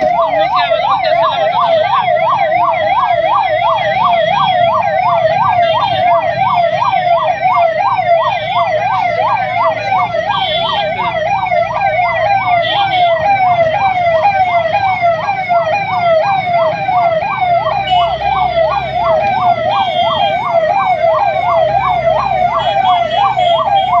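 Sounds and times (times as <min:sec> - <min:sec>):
ambulance siren yelping: 0:00.0 - 0:24.0
idling traffic hum: 0:00.0 - 0:24.0.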